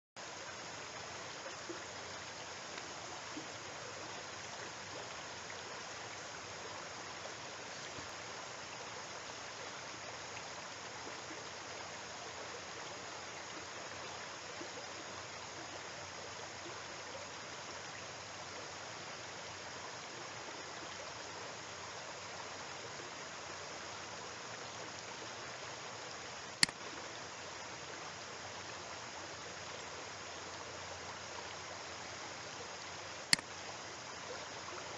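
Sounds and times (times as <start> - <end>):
background hiss: 0.2 - 34.9.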